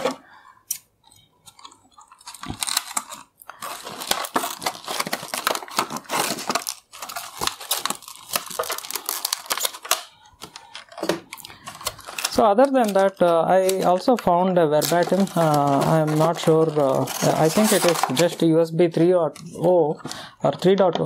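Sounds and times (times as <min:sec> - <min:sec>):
scissors cutting plastic: 0:00.0 - 0:18.3
plastic packaging crinkling: 0:01.1 - 0:18.5.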